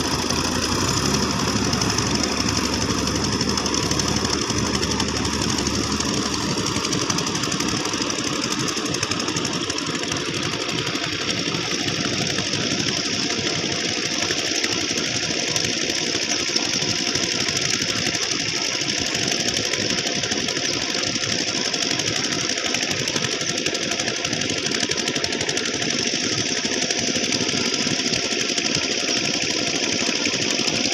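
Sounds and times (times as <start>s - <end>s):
tractor diesel engine pulsing: 0.0s - 30.9s.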